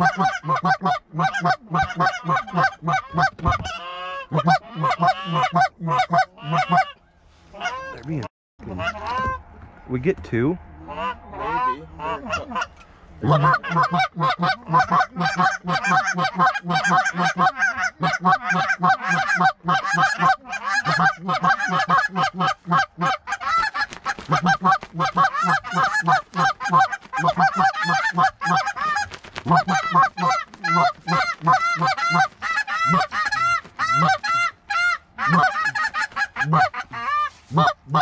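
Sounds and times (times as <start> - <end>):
geese honking and clucking: 0.0 - 9.5, 10.7 - 38.0.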